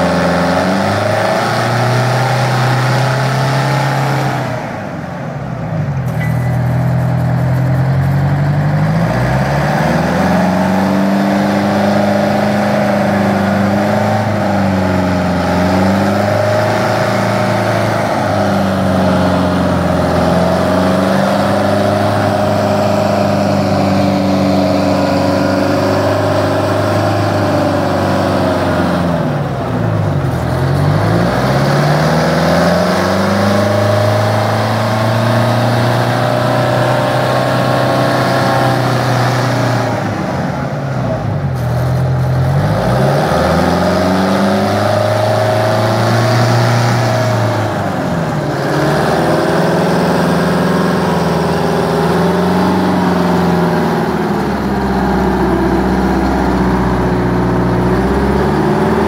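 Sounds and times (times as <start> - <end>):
wheel loader diesel engine: 0.0 - 59.0.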